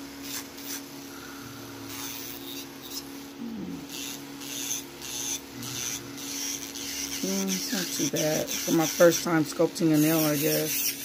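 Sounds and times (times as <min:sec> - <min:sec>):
steady low hum: 0:00.0 - 0:11.0
nail file rasping: 0:00.2 - 0:00.9, 0:01.9 - 0:03.1, 0:03.8 - 0:11.0.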